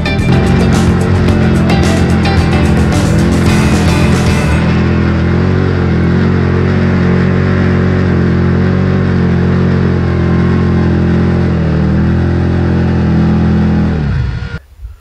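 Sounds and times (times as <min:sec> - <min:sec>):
atv engine running hard: 0:00.0 - 0:14.6.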